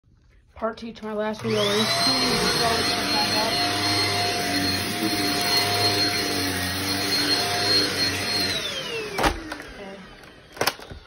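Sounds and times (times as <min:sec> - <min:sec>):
vacuum cleaner motor whine: 0:01.4 - 0:11.0.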